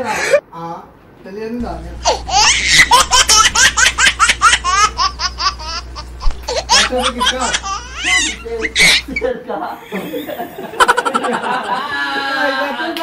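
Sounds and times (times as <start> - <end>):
men laughing: 1.9 - 12.8.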